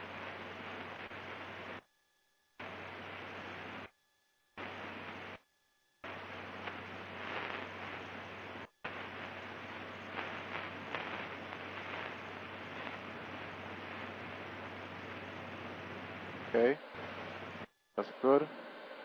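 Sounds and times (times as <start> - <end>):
headset intercom static hiss: 0.0 - 1.9, 2.6 - 3.9, 4.6 - 5.4, 6.0 - 19.0
faint low hum: 0.0 - 19.0.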